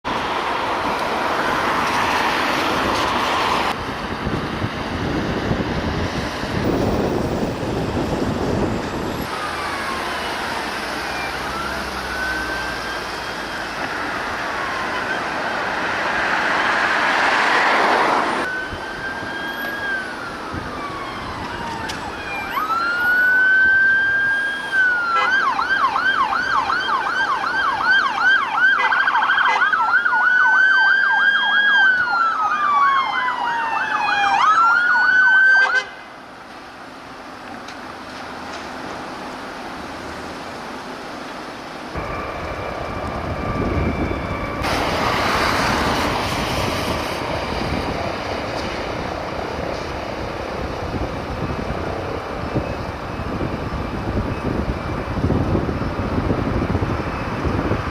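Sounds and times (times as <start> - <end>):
police sirens wailing and yelping: 0.2 - 3.8, 6.6 - 36.0, 41.9 - 57.9.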